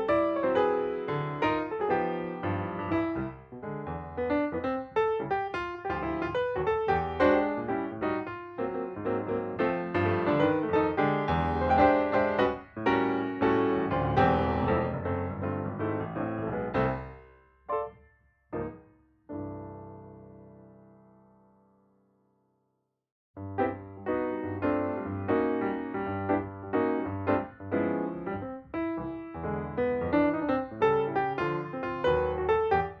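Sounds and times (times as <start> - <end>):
piano music: 0.0 - 21.8, 23.4 - 33.0.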